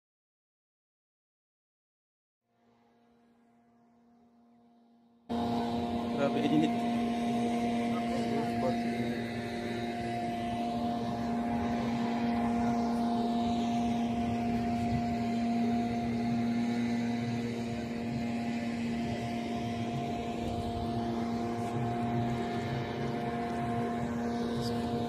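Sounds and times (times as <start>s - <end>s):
mechanical drone: 2.5s - 25.0s.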